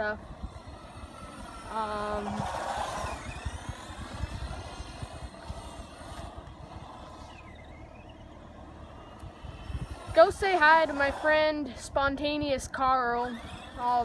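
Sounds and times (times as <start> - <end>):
toy car electric motor whining: 0.0 - 14.0.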